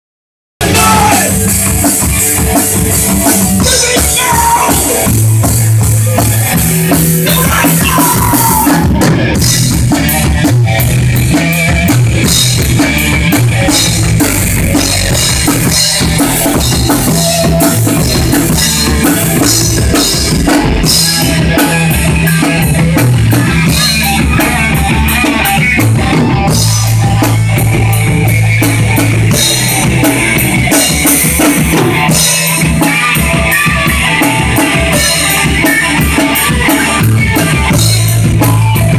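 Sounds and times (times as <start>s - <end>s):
loud rock music: 0.6s - 38.9s.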